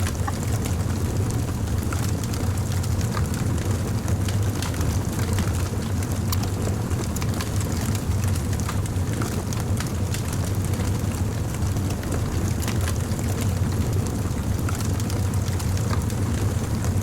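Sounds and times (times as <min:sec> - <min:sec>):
fire crackling: 0:00.0 - 0:17.0
low steady rumble: 0:00.0 - 0:17.0.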